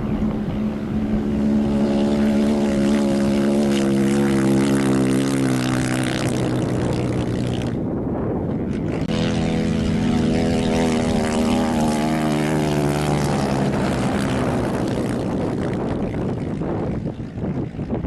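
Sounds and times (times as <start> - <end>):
racing engine running hard: 0.0 - 7.9, 8.6 - 18.0.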